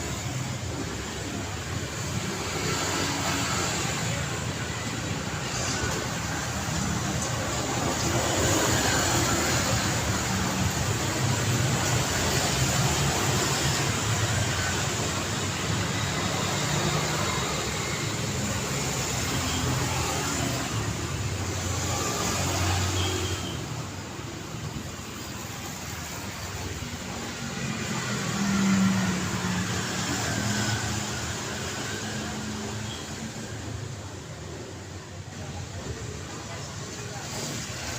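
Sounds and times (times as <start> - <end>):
road traffic passing: 0.0 - 37.9.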